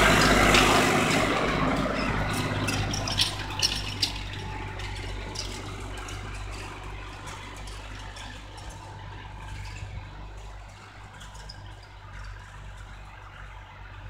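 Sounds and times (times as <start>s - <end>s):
tractor diesel engine running: 0.0s - 14.0s
light clicks and rattles: 0.2s - 14.0s.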